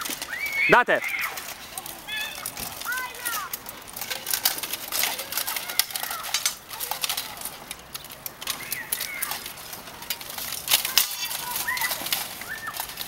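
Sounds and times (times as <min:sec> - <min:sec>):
armour clanking: 0:00.0 - 0:13.0.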